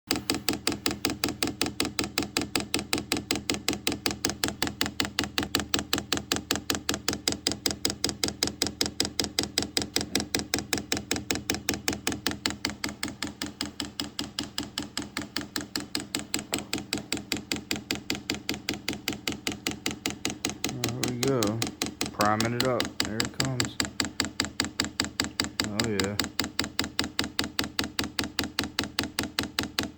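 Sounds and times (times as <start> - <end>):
fuel pump clicking rapidly: 0.1 - 29.9.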